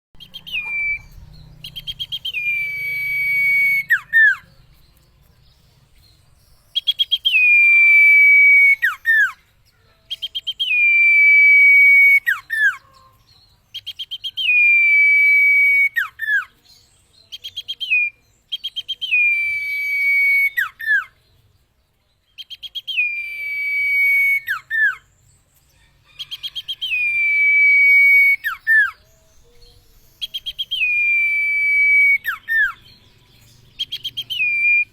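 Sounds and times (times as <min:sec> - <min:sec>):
bird whistled song: 0:00.2 - 0:34.9.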